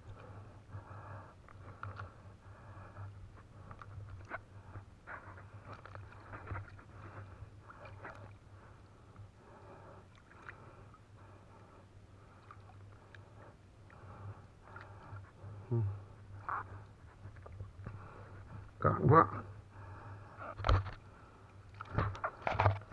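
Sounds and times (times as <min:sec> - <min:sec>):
faint low hum: 0:00.0 - 0:22.9
water splashing and sloshing: 0:00.0 - 0:22.9.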